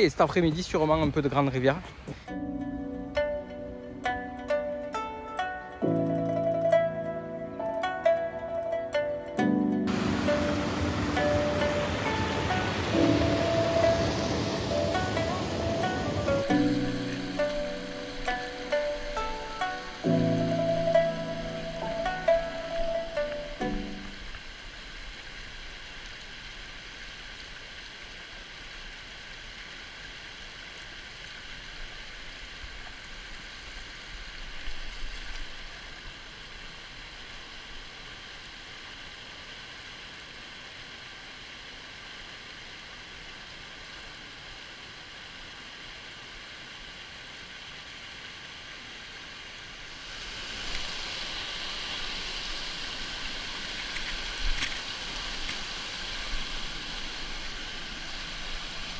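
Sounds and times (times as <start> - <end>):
stream rushing over cascades: 0.0 - 58.9.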